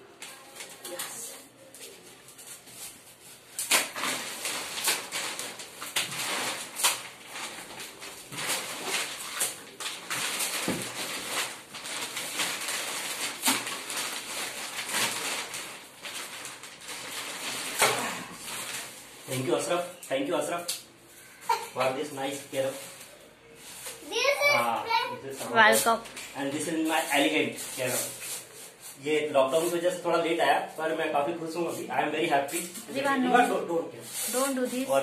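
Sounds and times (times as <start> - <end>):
plastic wrapping crinkling: 0.1 - 20.7, 25.4 - 35.0.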